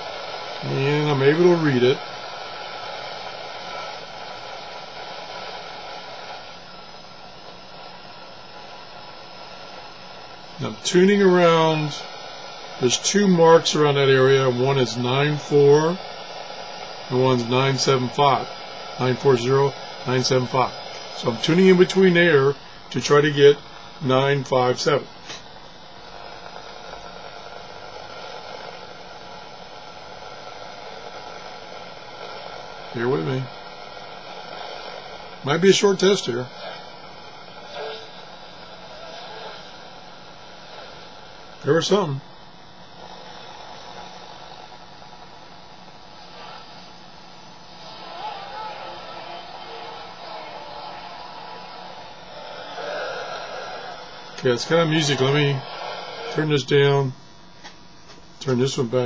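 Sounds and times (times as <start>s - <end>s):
shortwave radio static hiss: 0.0s - 59.0s.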